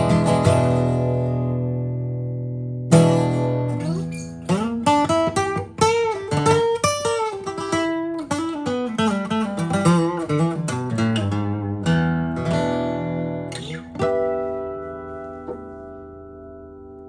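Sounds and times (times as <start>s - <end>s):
acoustic guitar picked notes: 0.0s - 17.0s
acoustic guitar strummed chords: 0.0s - 17.0s.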